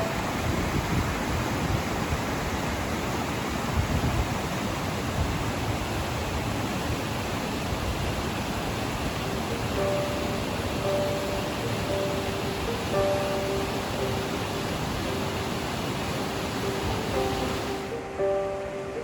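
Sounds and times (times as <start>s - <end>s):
fast river rushing: 0.0s - 19.0s.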